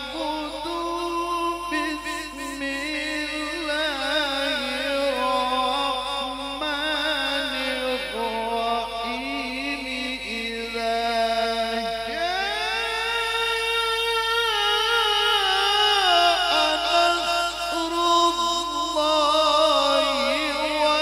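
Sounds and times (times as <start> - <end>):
man reciting through microphone: 0.0 - 21.0.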